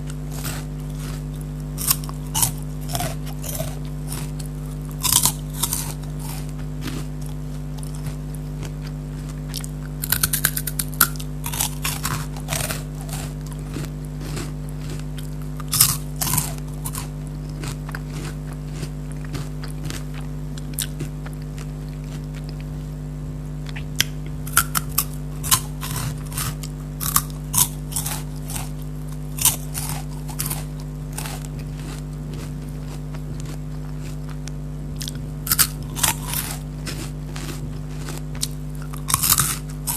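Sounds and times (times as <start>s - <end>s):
crunching and chewing snacks: 0.0s - 23.0s, 23.6s - 39.9s
steady low hum: 0.0s - 39.9s.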